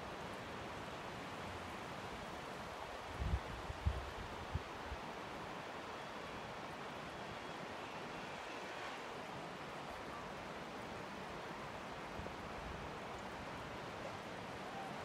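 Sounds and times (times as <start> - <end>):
fast mountain river rushing: 0.0 - 15.0.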